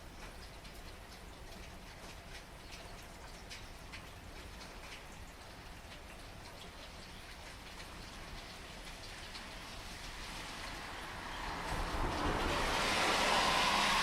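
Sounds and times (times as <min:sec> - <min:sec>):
raindrops ticking close by: 0:00.0 - 0:14.0
steady rain falling: 0:00.0 - 0:14.0.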